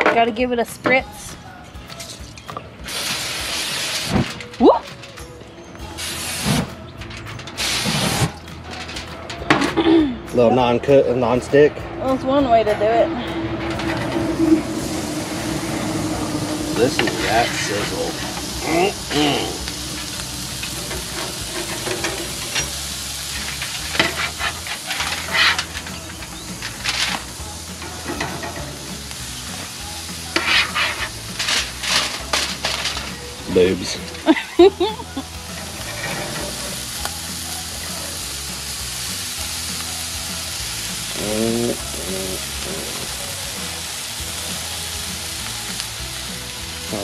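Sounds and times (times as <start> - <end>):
patties sizzling on a grill: 1.8 - 6.9, 7.5 - 11.5, 12.1 - 47.0.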